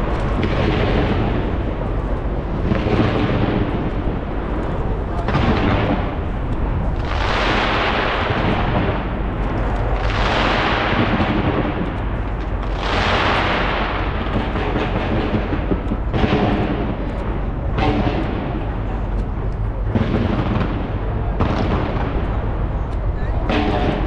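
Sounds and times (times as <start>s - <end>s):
fireworks exploding and crackling: 0.0s - 24.0s.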